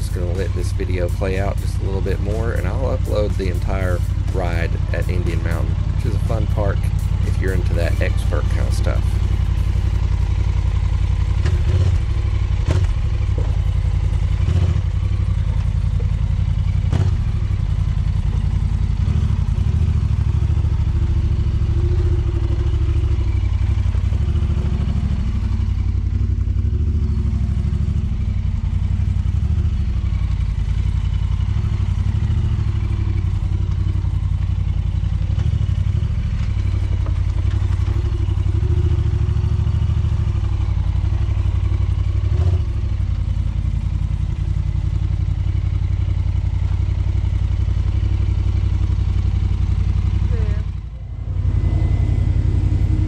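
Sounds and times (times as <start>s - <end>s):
utility vehicle engine droning: 0.0s - 53.0s.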